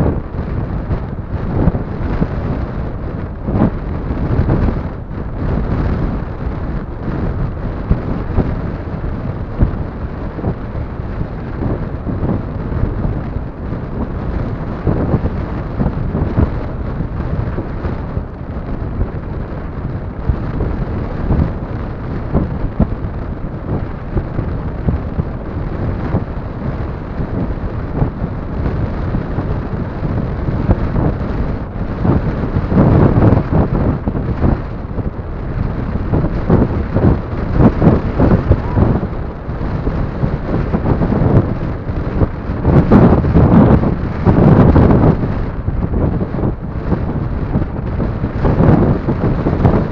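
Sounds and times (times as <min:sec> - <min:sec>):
strong wind buffeting microphone: 0:00.0 - 0:49.9.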